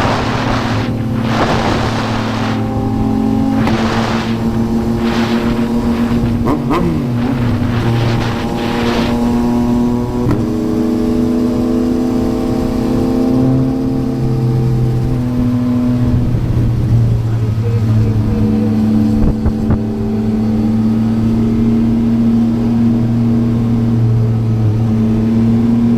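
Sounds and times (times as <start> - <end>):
rushes of wind noise: 0.0 - 22.1
motorcycle engine running: 0.0 - 25.9.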